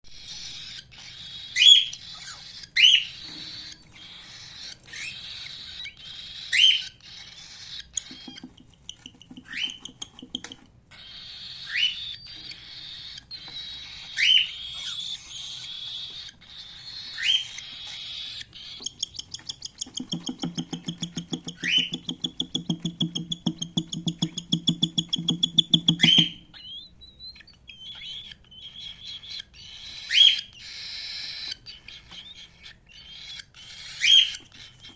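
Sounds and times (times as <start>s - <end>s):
cockatiel sharp calls: 0.1s - 34.9s
high bird chatter: 0.1s - 34.9s
fast rattling bird trill: 0.2s - 34.9s.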